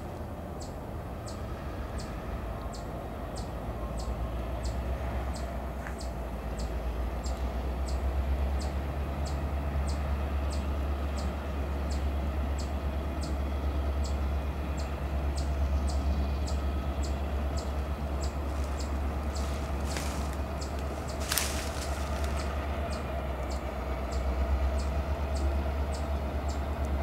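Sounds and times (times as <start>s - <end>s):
locomotive engine rumble: 0.0s - 27.0s.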